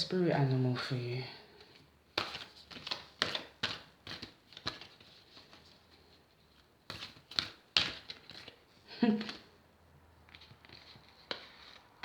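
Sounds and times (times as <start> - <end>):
cards being shuffled: 1.6 - 9.6, 10.2 - 12.0.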